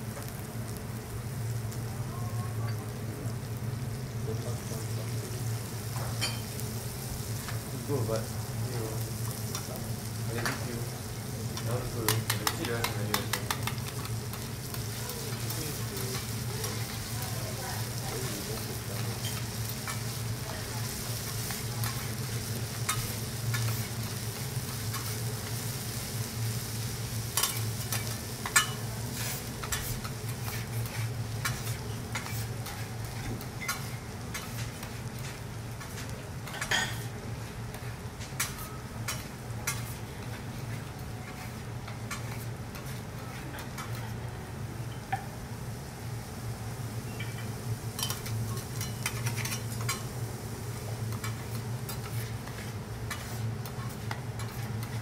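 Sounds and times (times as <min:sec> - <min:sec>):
food sizzling on griddle: 0:00.0 - 0:55.0.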